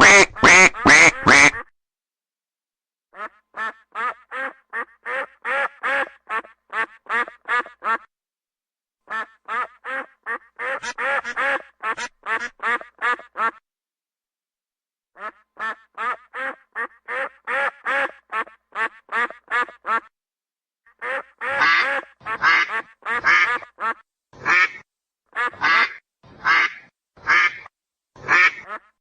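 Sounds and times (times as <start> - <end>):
duck quacking: 0.0 - 1.7, 3.1 - 8.1, 9.1 - 13.6, 15.2 - 20.1, 20.9 - 29.0.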